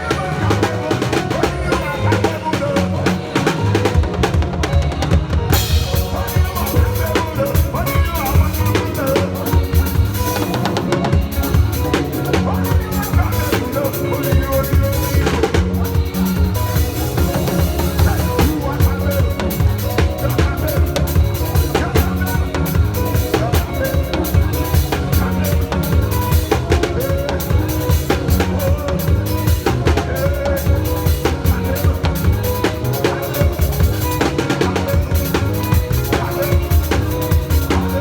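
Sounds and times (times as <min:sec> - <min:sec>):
drum kit fast beat: 0:00.0 - 0:38.0
live praise band playing: 0:00.0 - 0:38.0.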